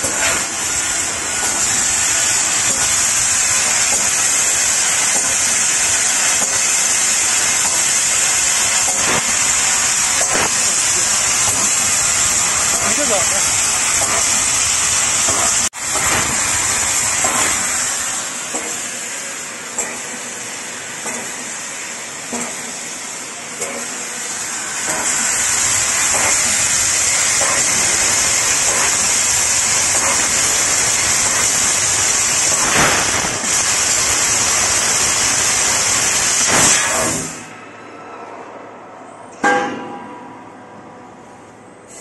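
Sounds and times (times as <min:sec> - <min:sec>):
high gas jet hiss: 0:00.0 - 0:37.5.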